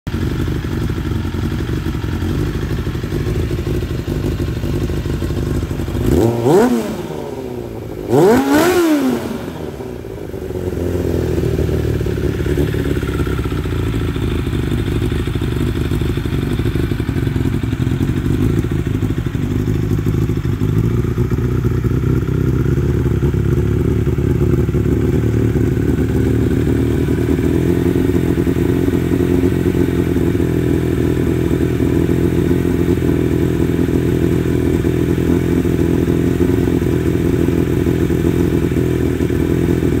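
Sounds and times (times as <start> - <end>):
motorcycle engine idling: 0.1 - 40.0.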